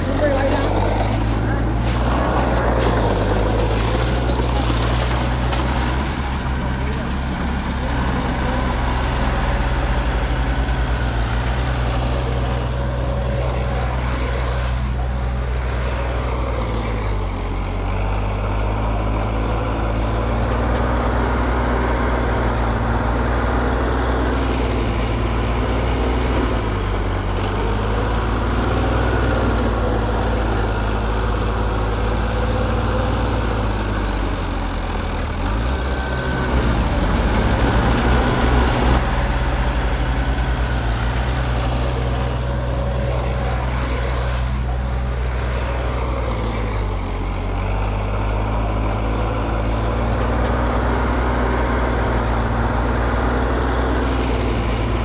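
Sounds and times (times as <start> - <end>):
diesel engine droning under load: 0.0 - 55.0.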